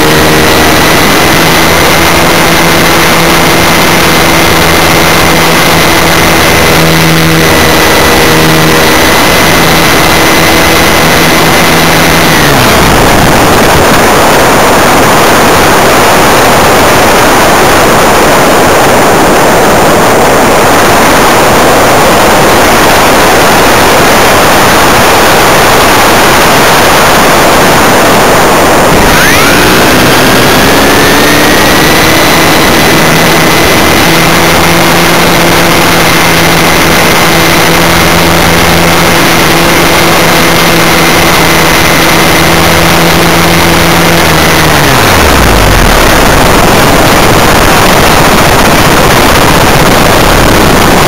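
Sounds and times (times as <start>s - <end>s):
aircraft motor and propeller droning: 0.0s - 51.0s
wind noise on microphone: 0.0s - 51.0s.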